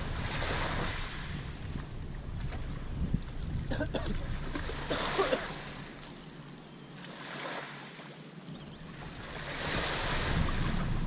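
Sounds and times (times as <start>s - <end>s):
wind blowing across microphone: 0.0s - 6.6s, 8.3s - 11.0s
low wind rumble: 0.0s - 6.9s, 8.1s - 11.0s
small waves lapping: 0.0s - 11.0s.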